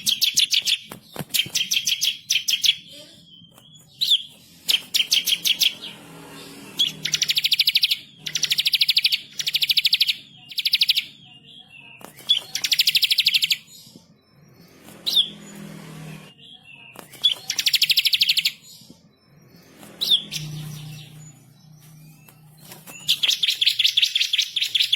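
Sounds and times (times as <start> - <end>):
bird sharp rising chirp: 0.0 - 11.2, 12.2 - 16.4, 17.1 - 24.9.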